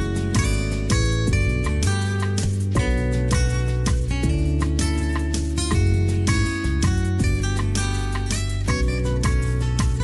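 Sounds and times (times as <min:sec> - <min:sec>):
instrumental guitar music with beat: 0:00.0 - 0:10.0.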